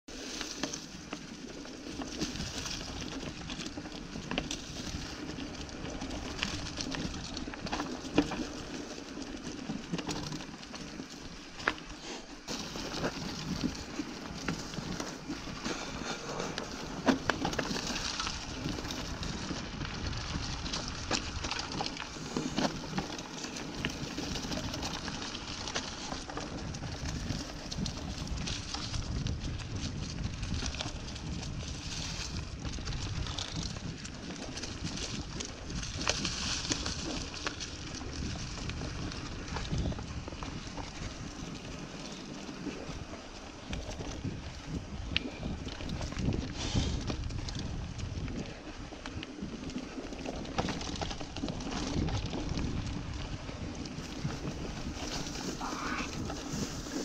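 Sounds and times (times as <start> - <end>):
bike clicks and rattles: 0.1 - 57.0
bike tyres over dry leaves: 0.1 - 57.0.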